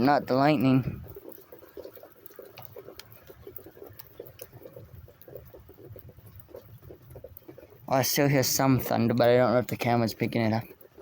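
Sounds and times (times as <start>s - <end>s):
rainwater dripping: 0.0s - 11.0s.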